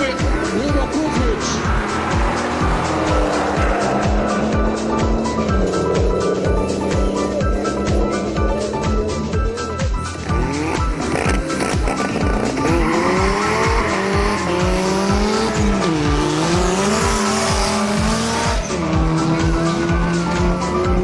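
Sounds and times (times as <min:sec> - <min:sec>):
background music with beat: 0:00.0 - 0:21.0
drag race car engines accelerating: 0:00.0 - 0:21.0.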